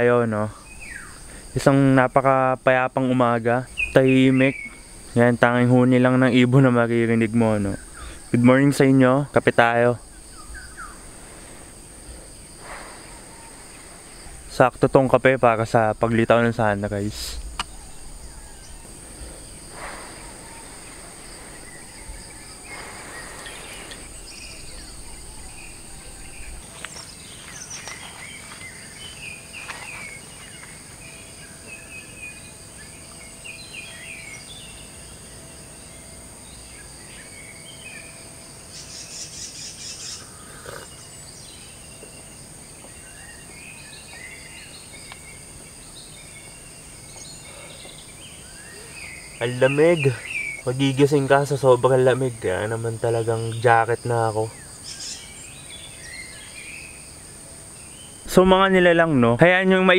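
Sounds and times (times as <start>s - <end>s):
bird trill: 0.0s - 1.7s, 3.0s - 5.0s, 7.6s - 11.8s, 15.6s - 53.8s, 54.5s - 58.6s
birds chirping and whistling: 0.0s - 2.4s, 3.0s - 53.8s, 54.4s - 59.6s
insects droning: 0.0s - 59.9s.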